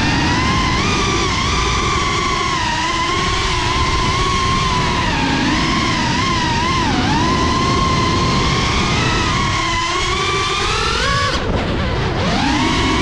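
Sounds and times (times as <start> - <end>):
drone motors whining: 0.0 - 13.0
rough low rumble: 0.0 - 13.0.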